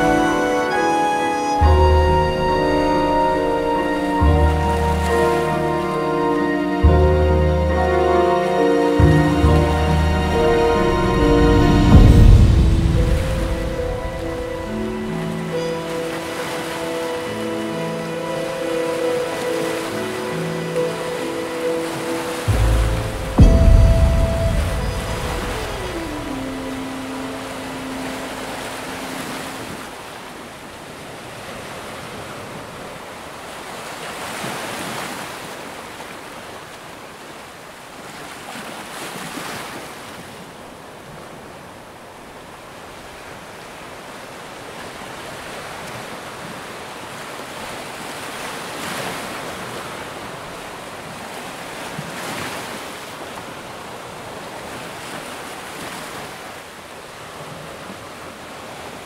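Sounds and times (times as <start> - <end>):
wind: 0.0 - 59.0
waves washing onto rocks: 8.4 - 59.0.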